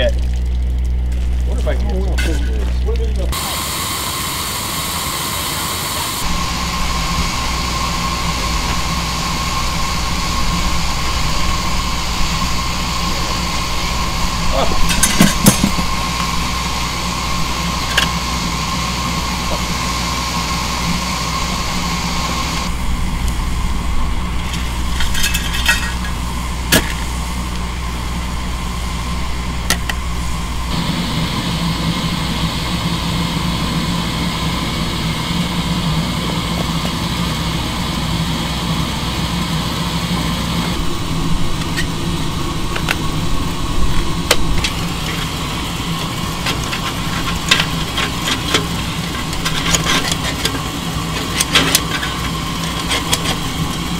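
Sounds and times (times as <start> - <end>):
machinery humming: 0.0 - 53.9.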